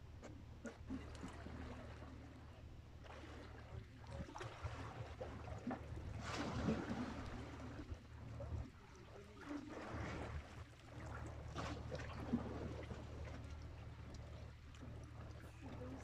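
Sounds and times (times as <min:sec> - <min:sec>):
sea water washing and splashing: 0:03.0 - 0:16.0.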